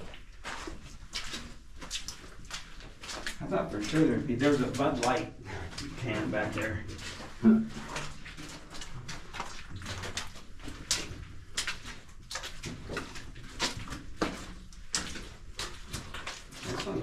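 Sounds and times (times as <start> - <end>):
footsteps in a tunnel: 0.0 - 17.0.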